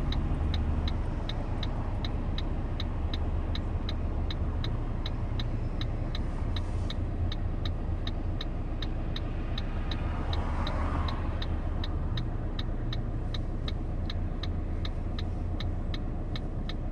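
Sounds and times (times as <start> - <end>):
diesel engine idling: 0.0 - 16.9
turn signal ticking: 0.0 - 16.9.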